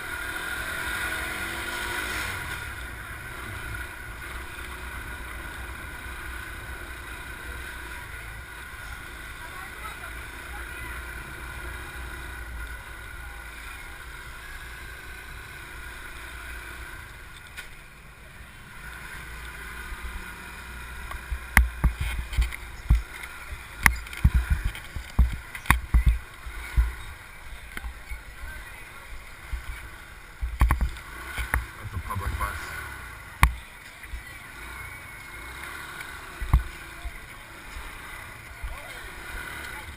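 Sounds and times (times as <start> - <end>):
motorbike rumble: 0.0 - 39.9.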